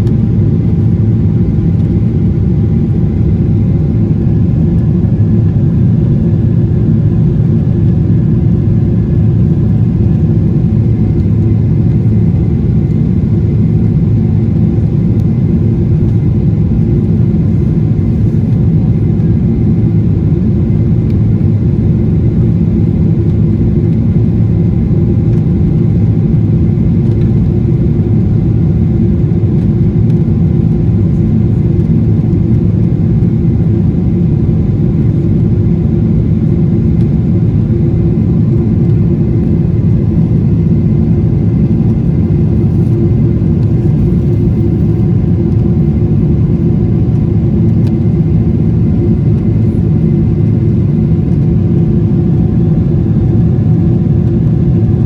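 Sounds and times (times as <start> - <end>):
aircraft engine rumble: 0.0 - 55.0.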